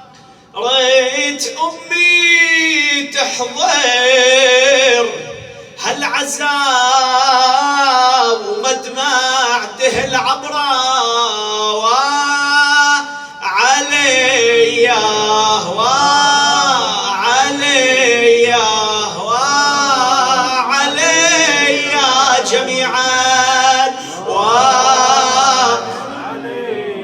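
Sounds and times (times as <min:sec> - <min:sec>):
man chanting a lament: 0:00.0 - 0:27.0.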